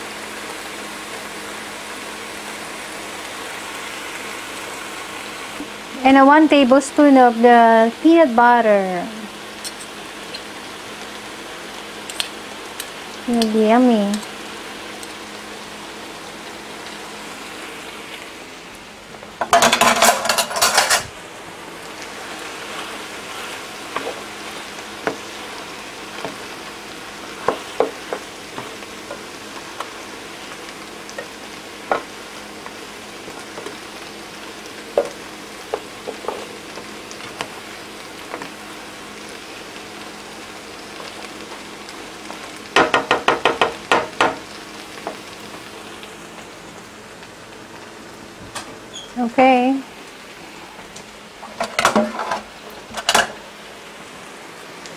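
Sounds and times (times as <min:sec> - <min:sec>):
food sizzling in pan: 0:00.0 - 0:54.9.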